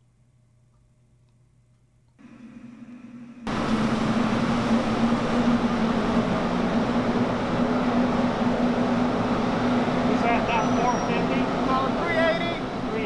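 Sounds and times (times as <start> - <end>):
low steady hum: 0.0 - 13.0
oven air rushing: 2.2 - 13.0.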